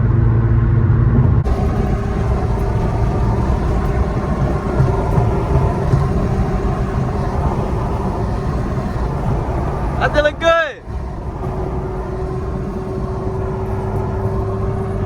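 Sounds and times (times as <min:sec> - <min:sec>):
engine and road rumble: 0:00.0 - 0:15.0
car engine droning: 0:00.8 - 0:15.0.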